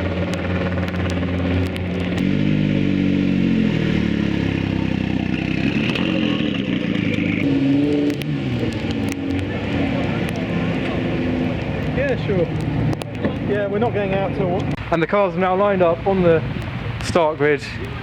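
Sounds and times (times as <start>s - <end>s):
sports car engines revving: 0.0s - 18.0s.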